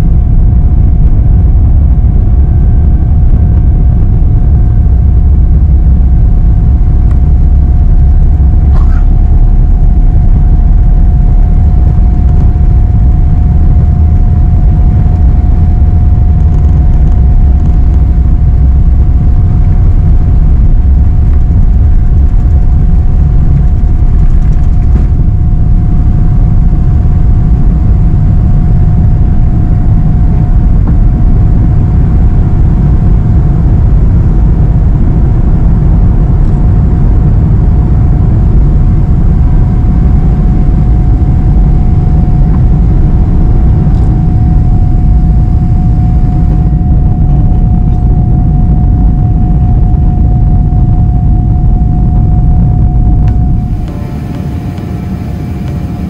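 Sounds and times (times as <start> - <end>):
jet engine whine: 0.0 - 56.0
jet engines low rumble: 0.0 - 56.0.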